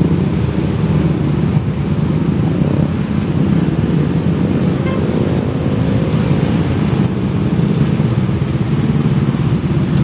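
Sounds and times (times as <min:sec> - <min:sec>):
rumble of passing vehicles: 0:00.0 - 0:10.0.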